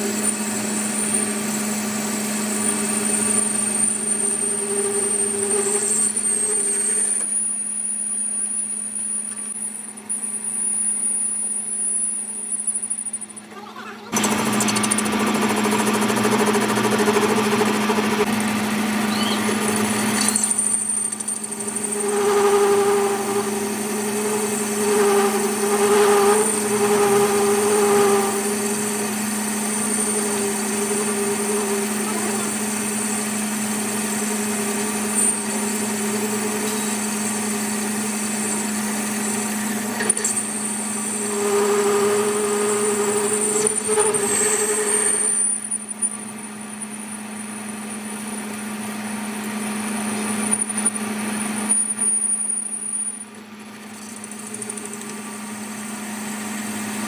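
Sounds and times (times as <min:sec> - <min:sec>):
workshop machine motor humming: 0:00.0 - 0:57.0.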